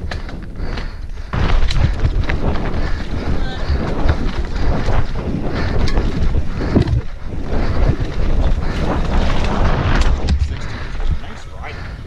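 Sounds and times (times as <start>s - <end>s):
bike rumbling and rattling: 0.0s - 12.0s
wind buffeting microphone: 0.0s - 12.0s.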